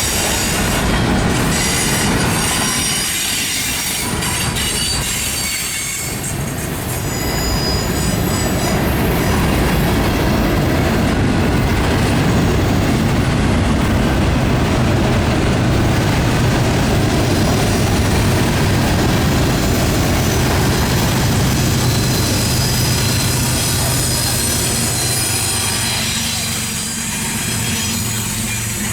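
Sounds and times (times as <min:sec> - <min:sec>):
high wheel squeal: 0:00.0 - 0:11.2, 0:16.8 - 0:28.9
train wheels rumbling on rails: 0:00.0 - 0:28.9.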